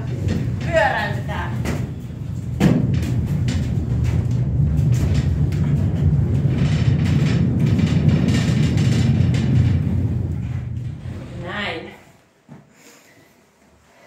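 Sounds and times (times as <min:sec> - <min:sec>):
light clicks and rattles: 0:00.0 - 0:11.3
dome rotating with low rumble: 0:00.0 - 0:12.1.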